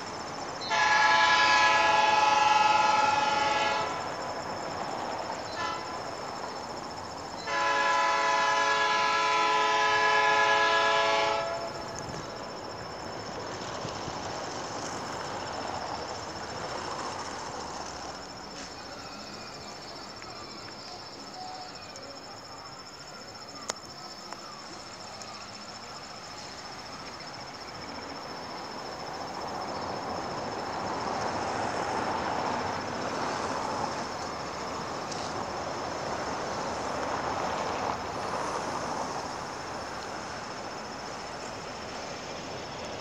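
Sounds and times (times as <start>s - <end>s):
distant locomotive engines: 0.0s - 43.0s
high insect trill: 0.0s - 43.0s
rail noise: 0.0s - 43.0s.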